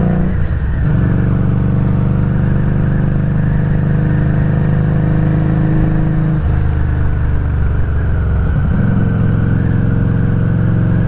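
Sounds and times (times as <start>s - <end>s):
motorcycle exhaust: 0.0s - 11.0s.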